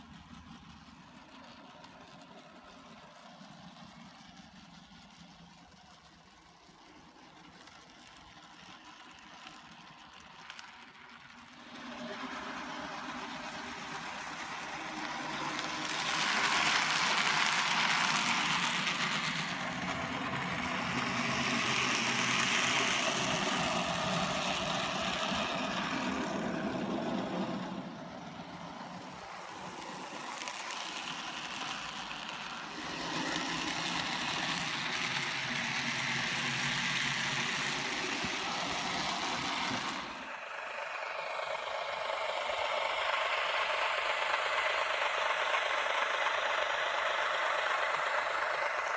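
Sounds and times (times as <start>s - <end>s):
model train humming: 0.0s - 48.9s.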